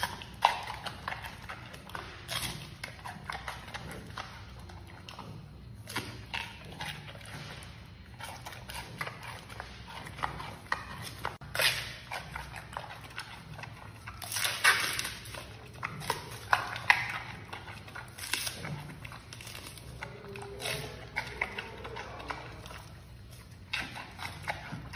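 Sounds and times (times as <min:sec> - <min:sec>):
panda chewing bamboo: 0:00.0 - 0:24.9.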